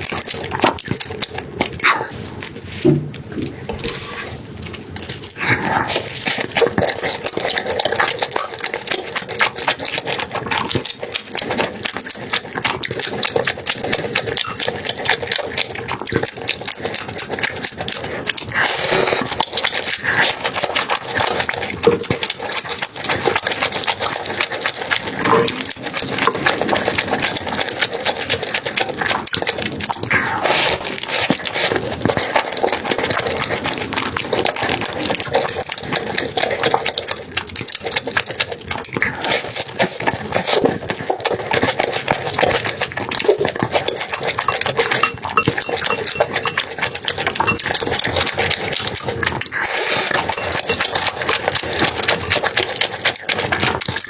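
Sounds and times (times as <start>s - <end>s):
chewing with mouth clicks: 0.0s - 54.0s.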